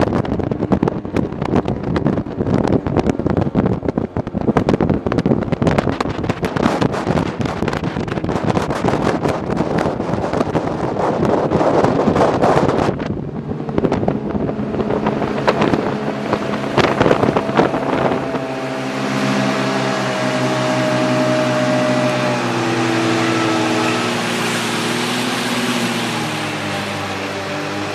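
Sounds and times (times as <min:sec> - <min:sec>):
jet boat engine drone: 0:00.0 - 0:27.9
wind buffeting microphone: 0:00.0 - 0:27.9.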